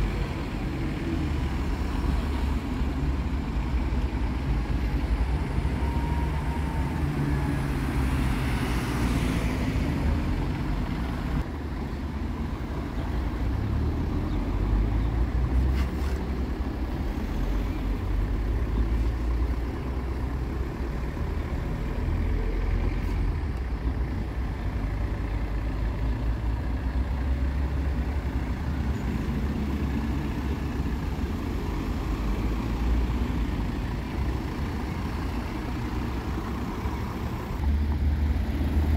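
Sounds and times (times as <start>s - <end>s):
vehicle engine rumble: 0.0s - 38.9s.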